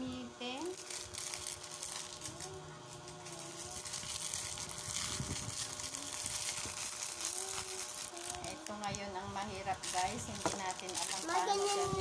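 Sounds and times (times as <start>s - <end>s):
plastic parts and wrapping rustling: 0.5s - 12.0s.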